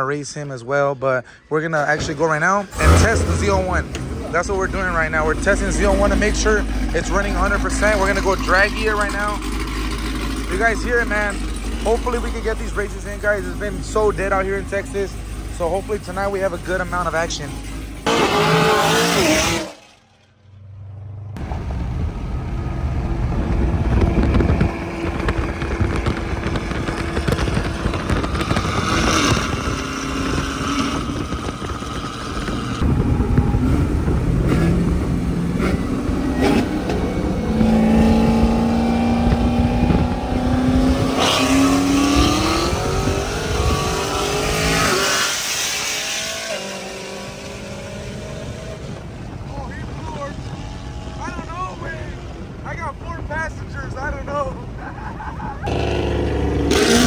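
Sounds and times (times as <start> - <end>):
wind and road noise: 0.0 - 57.0
car engines accelerating: 1.9 - 57.0.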